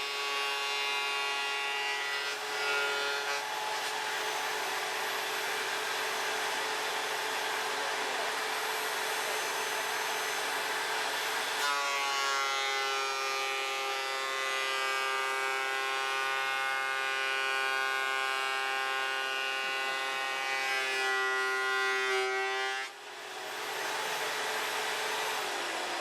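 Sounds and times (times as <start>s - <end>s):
electric wood planer running: 0.0s - 26.0s
high-pitched planer whine: 0.0s - 26.0s.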